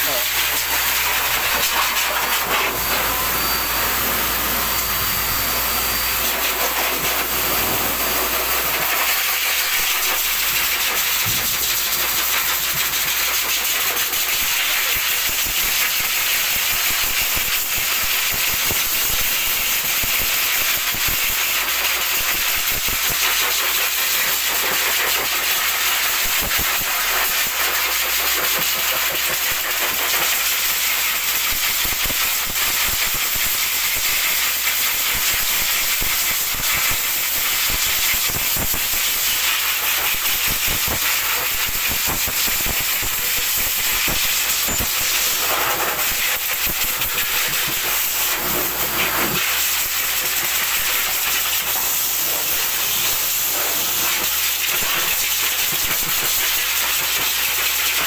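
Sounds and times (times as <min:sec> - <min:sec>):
blow dryer blasting air: 0:00.0 - 0:27.4, 0:28.0 - 0:58.0.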